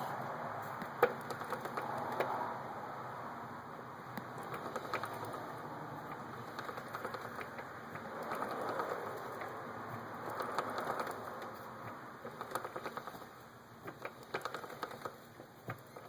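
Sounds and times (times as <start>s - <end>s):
steady whirr: 0.0s - 16.0s
motorcycle chain ticking: 1.0s - 2.3s, 4.2s - 16.0s.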